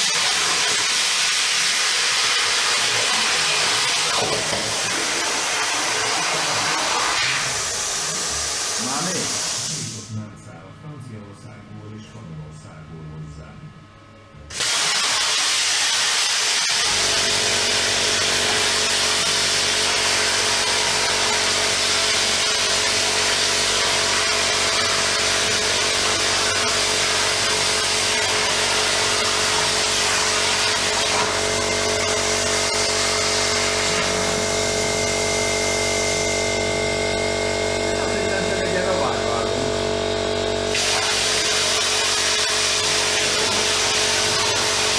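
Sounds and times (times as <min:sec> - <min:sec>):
plasma cutter hissing: 0:00.0 - 0:10.1, 0:14.5 - 0:36.4, 0:40.7 - 0:44.9.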